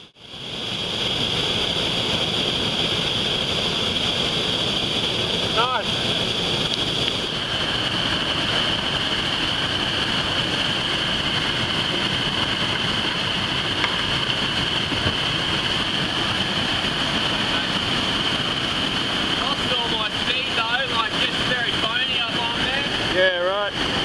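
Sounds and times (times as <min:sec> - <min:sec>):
whitewater rushing: 0:00.0 - 0:24.0.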